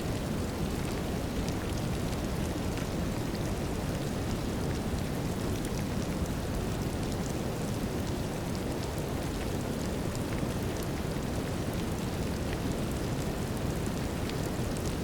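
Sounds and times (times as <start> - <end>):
brown noise hiss: 0.0 - 15.0
light rain falling: 0.0 - 15.0.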